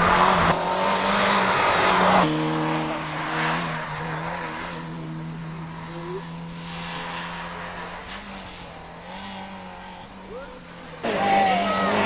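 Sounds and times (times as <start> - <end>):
distant rally car engine: 0.0 - 12.0
rally car engine at high revs: 0.0 - 12.0.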